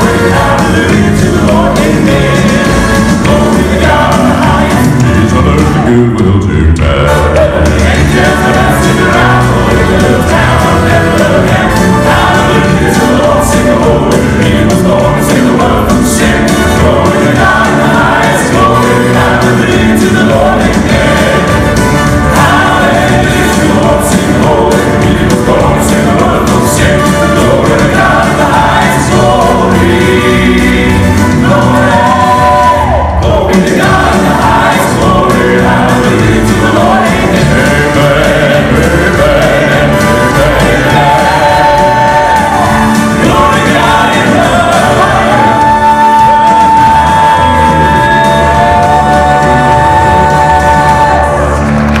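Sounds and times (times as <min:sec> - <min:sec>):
live band playing: 0:00.0 - 0:52.0
male quartet singing in harmony: 0:00.0 - 0:52.0.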